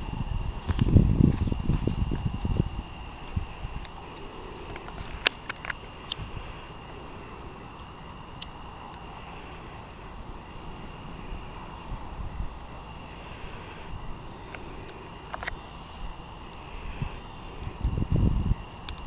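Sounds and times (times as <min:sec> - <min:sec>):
crickets chirring: 0:00.0 - 0:19.0
wind buffeting microphone: 0:00.0 - 0:19.0.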